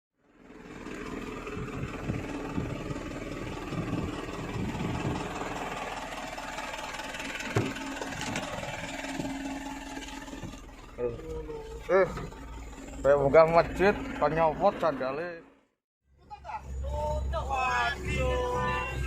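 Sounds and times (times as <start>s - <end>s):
truck engine idling: 0.2s - 19.0s.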